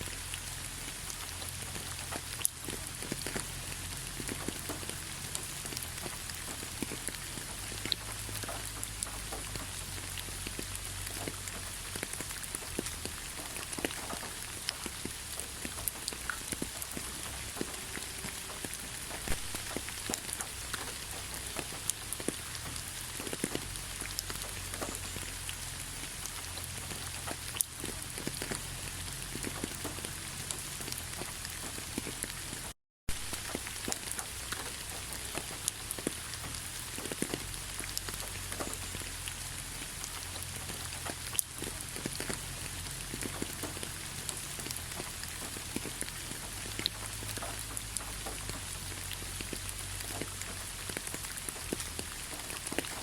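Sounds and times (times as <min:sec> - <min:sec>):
rain on a hard surface: 0:00.0 - 0:53.0.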